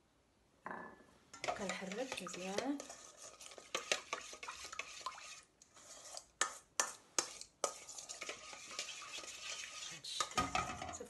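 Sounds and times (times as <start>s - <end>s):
spoon stirring in metal bowl: 1.3s - 11.0s.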